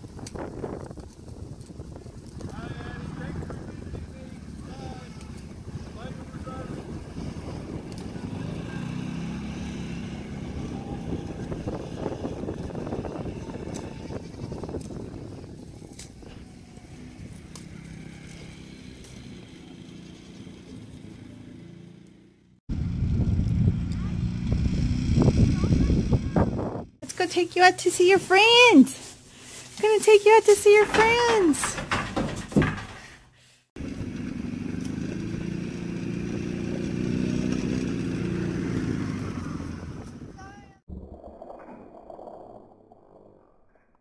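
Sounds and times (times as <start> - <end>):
motor engine humming: 2.5 - 33.0, 33.8 - 40.4.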